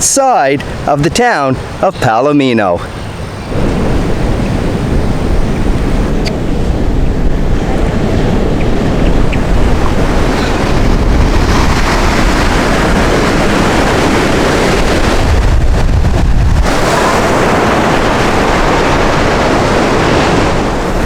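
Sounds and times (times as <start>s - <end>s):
surf washing in: 0.0s - 21.0s
wind buffeting microphone: 0.0s - 21.0s.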